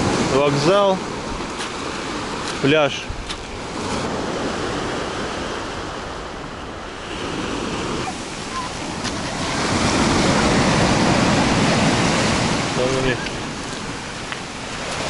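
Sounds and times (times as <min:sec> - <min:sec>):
surf breaking on a pebble beach: 0:00.0 - 0:06.1, 0:07.0 - 0:15.0.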